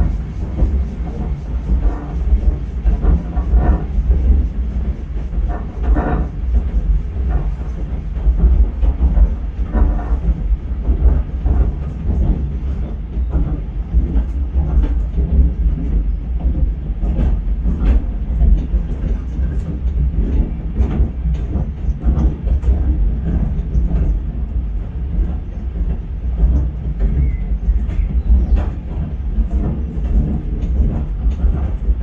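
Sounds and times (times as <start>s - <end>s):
train low rumble: 0.0s - 32.0s
wheels clicking on rails: 0.0s - 32.0s.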